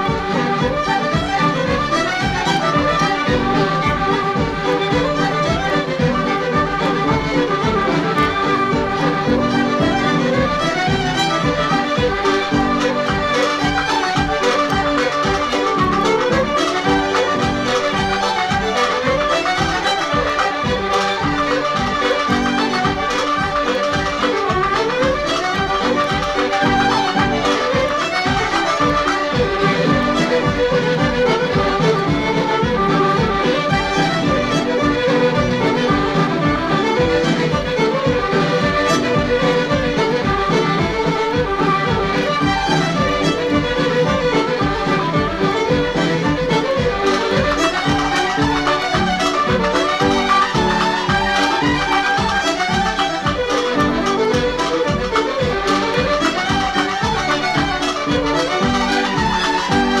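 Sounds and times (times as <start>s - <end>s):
fiddles and accordion dance music: 0.0s - 60.0s.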